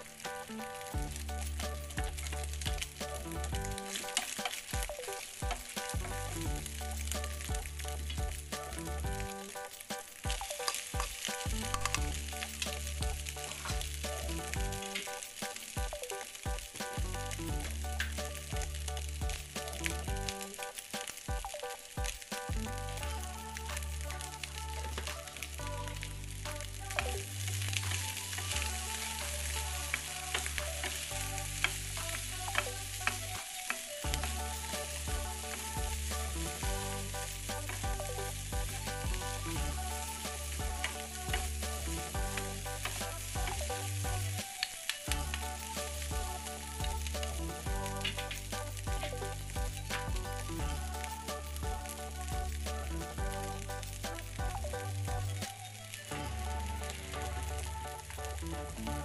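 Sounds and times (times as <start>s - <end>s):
background music with bass: 0.0s - 59.0s
eggs and onion sizzling in oil: 0.0s - 59.0s.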